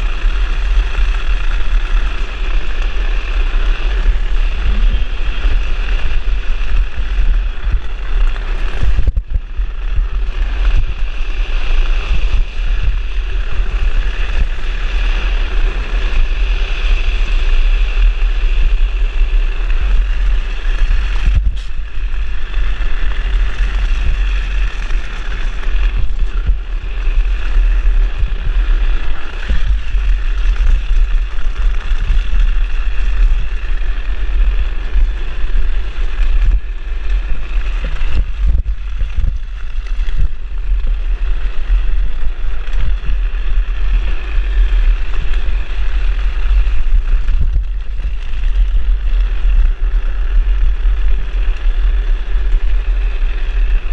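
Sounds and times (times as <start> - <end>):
wheels sliding on asphalt: 0.0 - 53.9
wind buffeting microphone: 0.0 - 53.9.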